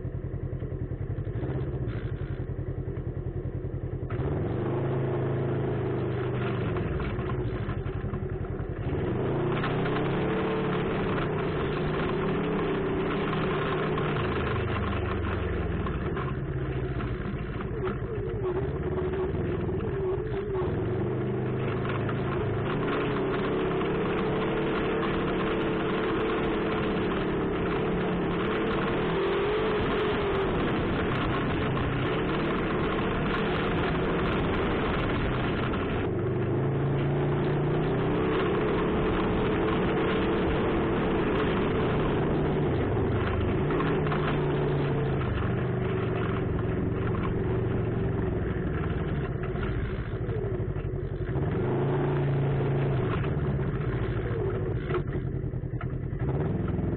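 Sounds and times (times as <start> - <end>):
off-road vehicle engine revving: 0.9 - 2.5, 3.9 - 56.9.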